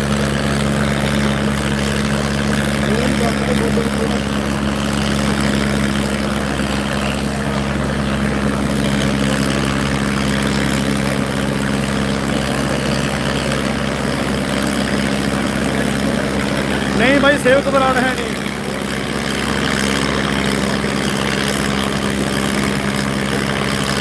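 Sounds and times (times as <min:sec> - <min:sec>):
tractor diesel engines droning: 0:00.0 - 0:24.0.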